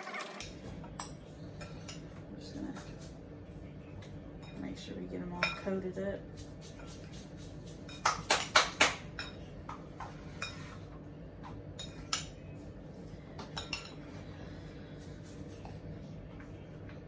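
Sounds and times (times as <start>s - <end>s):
utensils clinking against a dish: 0.4s - 3.2s, 4.0s - 12.4s, 13.3s - 15.8s.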